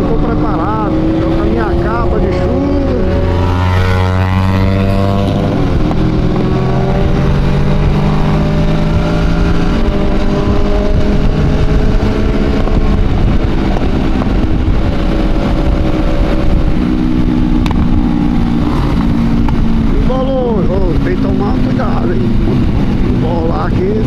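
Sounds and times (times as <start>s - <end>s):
motorcycle engines running: 0.0s - 24.0s.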